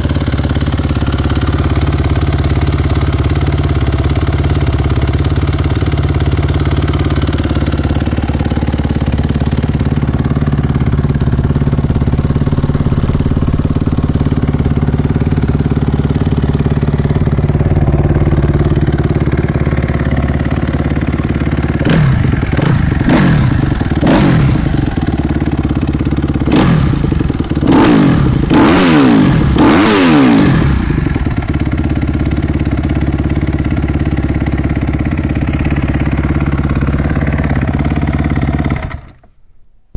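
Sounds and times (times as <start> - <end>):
motocross engine idling and revving: 0.0 - 39.3.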